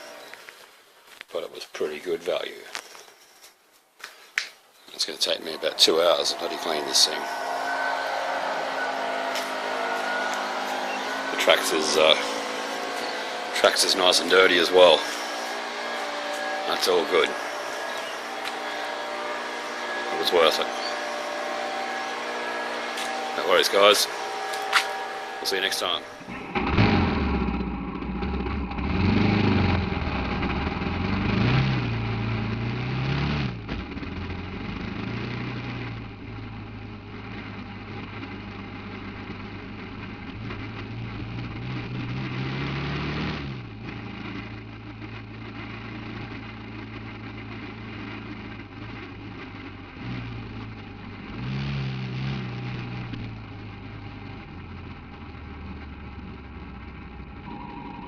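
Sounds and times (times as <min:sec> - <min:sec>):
buggy engine revving: 0:05.0 - 0:58.0.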